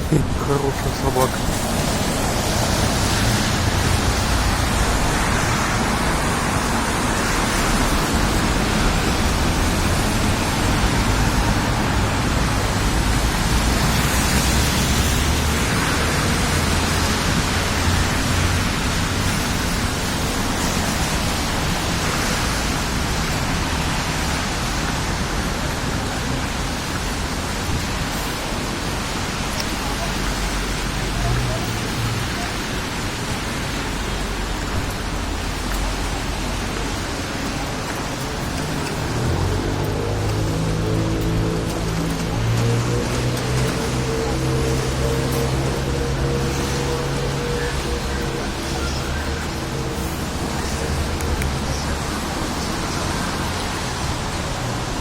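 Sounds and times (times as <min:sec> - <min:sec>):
wind blowing on microphone: 0:00.0 - 0:55.0.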